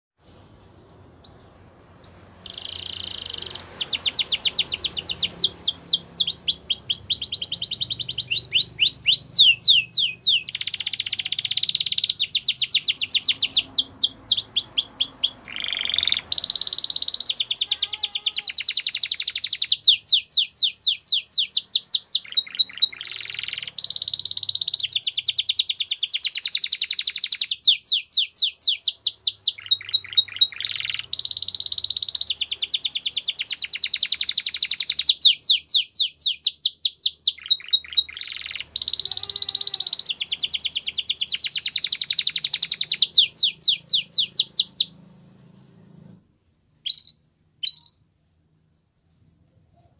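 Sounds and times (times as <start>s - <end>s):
canary singing rapid trills: 1.2s - 45.1s, 46.2s - 48.1s.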